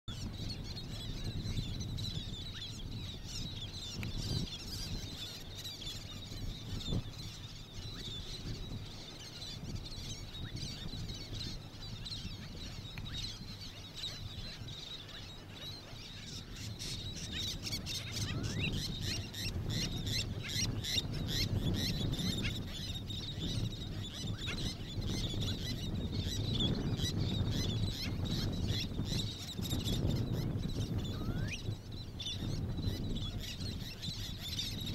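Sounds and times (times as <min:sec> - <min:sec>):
birds calling: 0:00.1 - 0:34.9.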